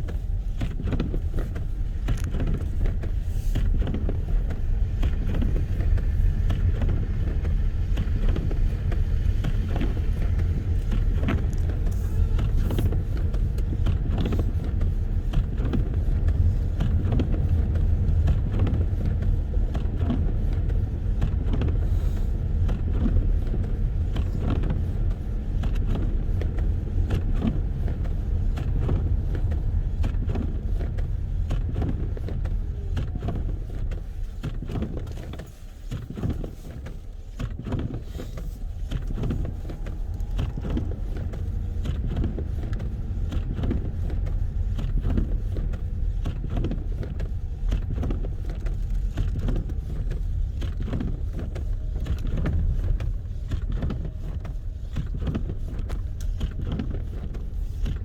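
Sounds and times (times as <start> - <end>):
wind buffeting microphone: 0.0 - 35.1, 37.9 - 58.0.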